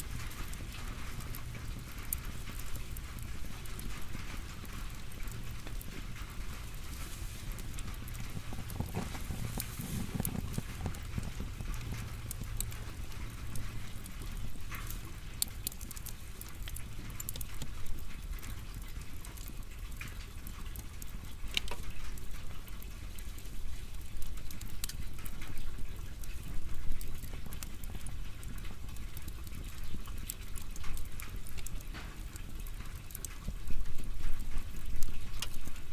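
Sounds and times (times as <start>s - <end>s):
firewood burning with crackles: 0.0s - 35.9s.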